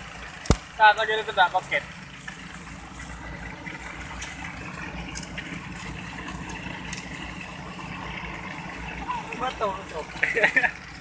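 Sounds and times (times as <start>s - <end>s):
pump engine humming: 0.0s - 11.0s.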